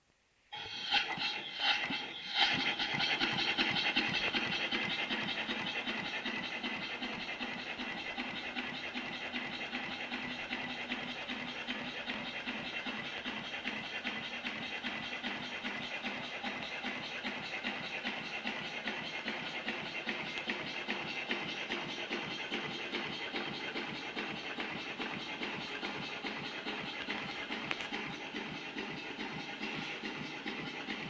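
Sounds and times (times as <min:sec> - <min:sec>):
steam engine exhaust puffs: 0:00.5 - 0:31.0.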